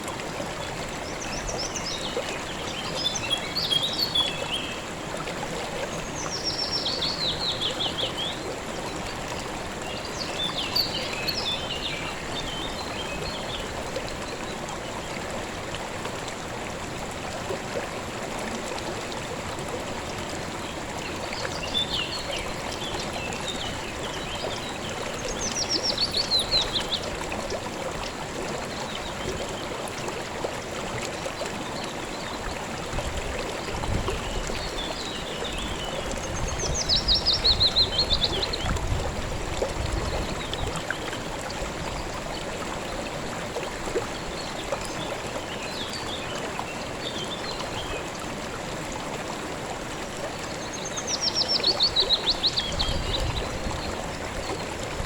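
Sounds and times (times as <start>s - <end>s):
river water running over stones: 0.0s - 55.0s.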